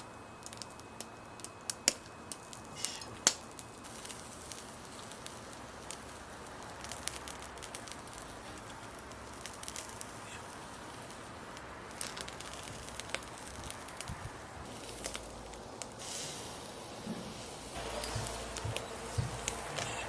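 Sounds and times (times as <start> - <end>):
charcoal fire crackling and popping: 0.0 - 20.0
faint sizzle: 0.0 - 20.0.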